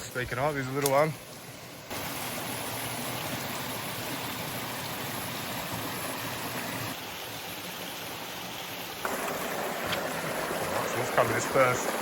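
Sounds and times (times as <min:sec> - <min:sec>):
creek rushing over rocks: 0:01.9 - 0:12.0.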